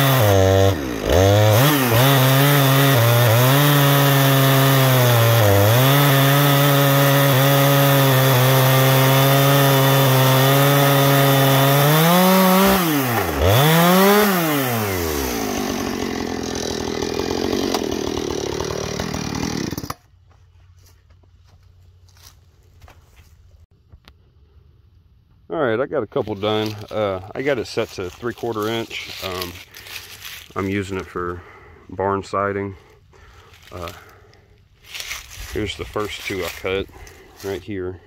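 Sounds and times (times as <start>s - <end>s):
chainsaw cutting through log: 0.0s - 20.1s, 26.4s - 32.6s, 33.2s - 37.9s.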